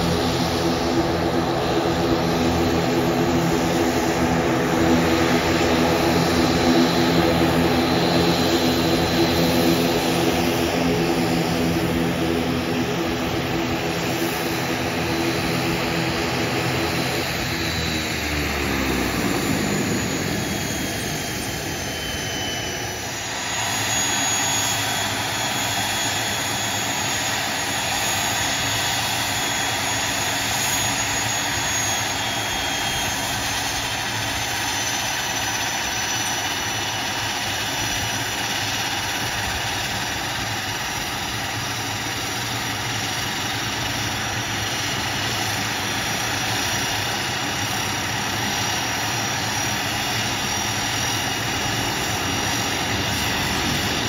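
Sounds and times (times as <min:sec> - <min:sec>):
high turbine whine: 0:00.0 - 0:54.0
propeller drone: 0:00.0 - 0:54.0.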